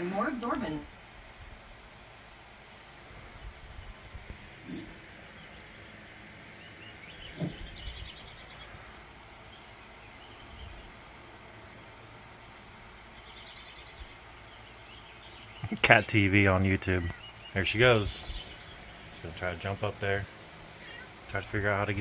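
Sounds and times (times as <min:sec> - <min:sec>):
steady low hiss: 0:00.0 - 0:22.0
small birds chirping on television: 0:01.8 - 0:22.0.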